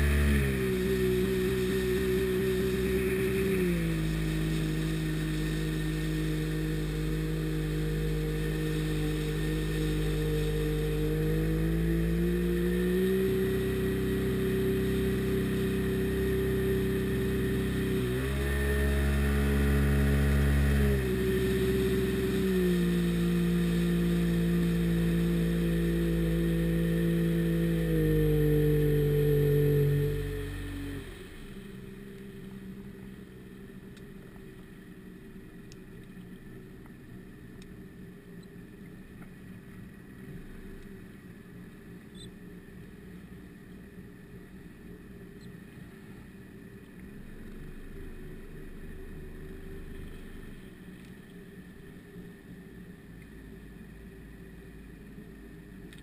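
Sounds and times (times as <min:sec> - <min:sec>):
jet boat engine running: 0:00.0 - 0:56.0.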